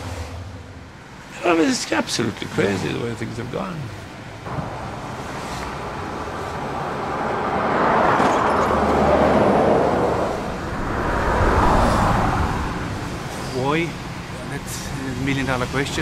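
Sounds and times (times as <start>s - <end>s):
cars driving past: 2.0s - 16.0s.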